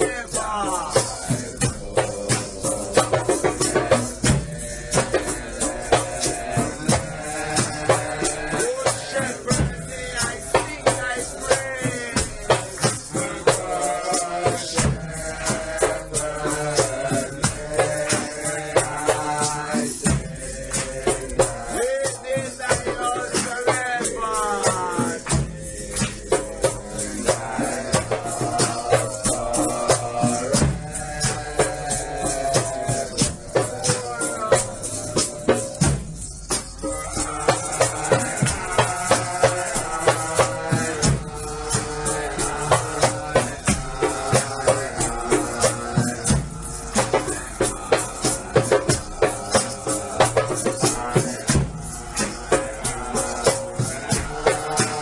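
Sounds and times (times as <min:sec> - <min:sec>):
hand drums beating: 0:00.0 - 0:55.0
shakers rattling: 0:00.0 - 0:55.0
voices singing slow hymn: 0:00.0 - 0:55.0.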